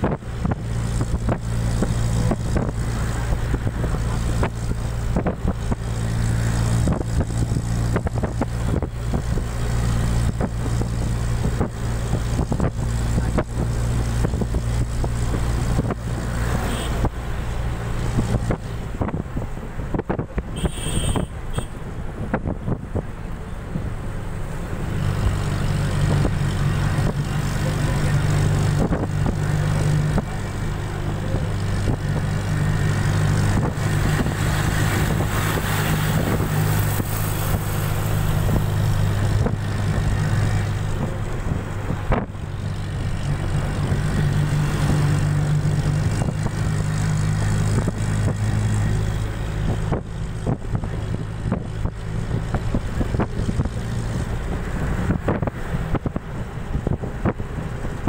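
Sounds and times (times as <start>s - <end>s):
bus engine humming: 0.0s - 58.0s
road and wind noise: 0.0s - 58.0s.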